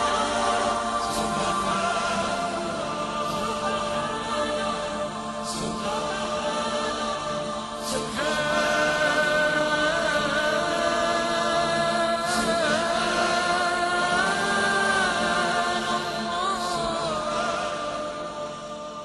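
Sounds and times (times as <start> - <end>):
chanting with long held notes: 0.0 - 19.0.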